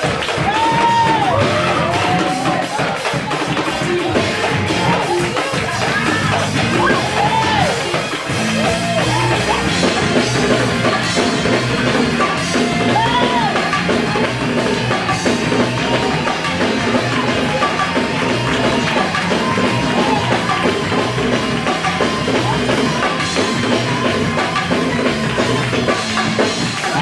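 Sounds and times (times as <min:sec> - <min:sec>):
band playing upbeat gospel music: 0:00.0 - 0:27.0
drum kit beat: 0:00.0 - 0:27.0
guitar: 0:00.0 - 0:27.0.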